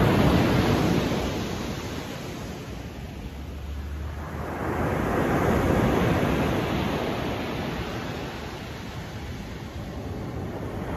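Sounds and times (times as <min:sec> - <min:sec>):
ocean waves breaking on beach: 0:00.0 - 0:10.9.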